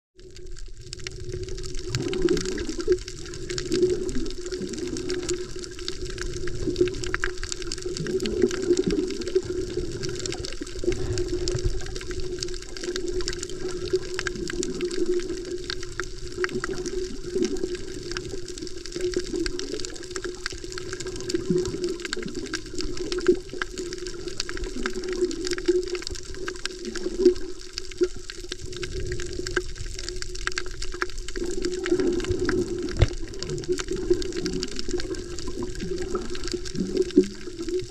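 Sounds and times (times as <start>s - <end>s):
muffled water sloshing underwater: 0.2s - 37.9s.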